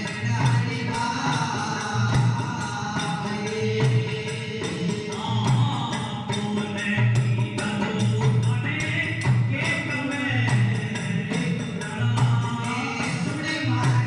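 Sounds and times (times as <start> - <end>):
jingling hand percussion: 0.0 - 14.0
steady drum beat: 0.0 - 14.0.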